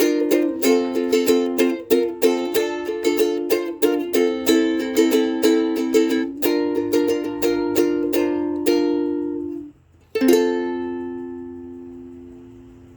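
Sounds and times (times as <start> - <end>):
acoustic strings strumming chords: 0.0 - 12.9.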